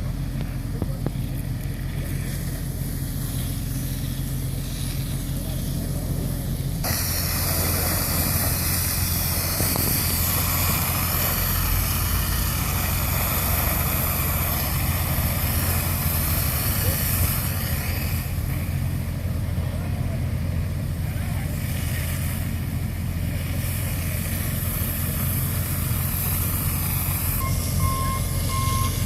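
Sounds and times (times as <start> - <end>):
truck engine running: 0.0 - 29.0
loud hiss: 1.9 - 19.3, 20.8 - 29.0.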